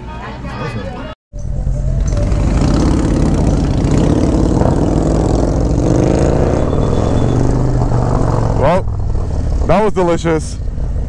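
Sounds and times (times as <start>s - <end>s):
motorcycle accelerating: 1.4s - 11.0s.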